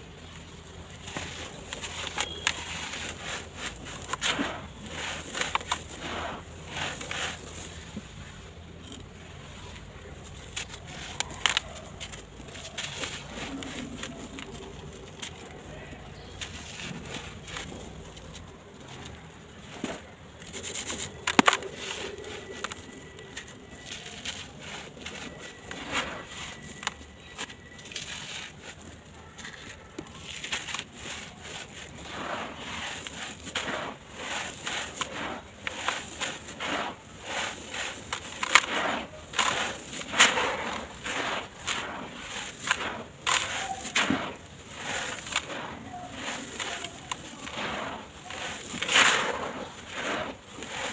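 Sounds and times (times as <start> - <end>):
blocks crumbling in a tub: 0.0 - 8.1, 8.7 - 50.9.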